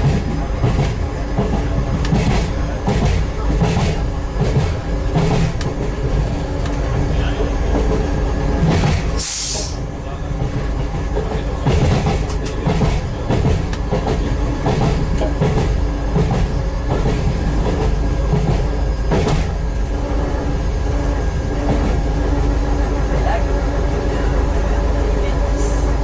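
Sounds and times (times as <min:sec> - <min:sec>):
train engine rumble: 0:00.0 - 0:26.0.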